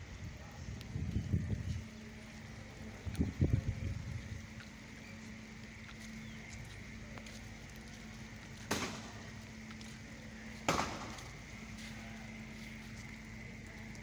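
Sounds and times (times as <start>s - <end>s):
faint steady hum: 0.0s - 14.0s
rain falling on standing water: 0.0s - 14.0s.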